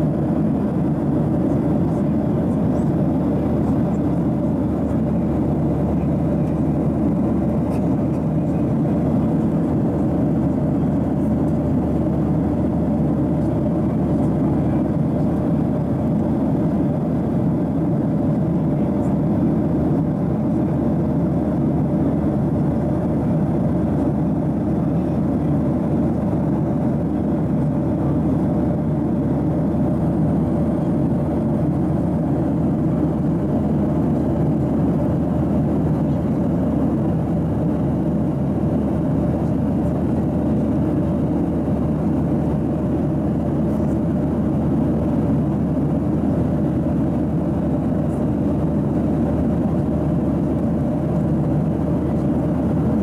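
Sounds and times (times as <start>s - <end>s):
airplane cabin roar: 0.0s - 53.0s.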